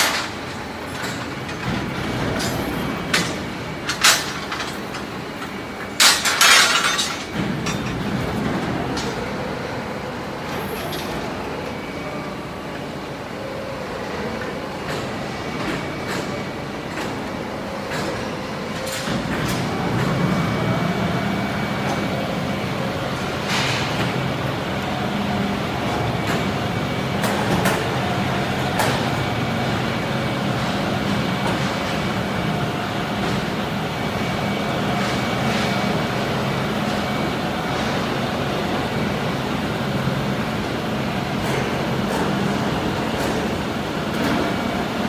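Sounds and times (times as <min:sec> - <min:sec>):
machinery hum: 0:00.0 - 0:45.0.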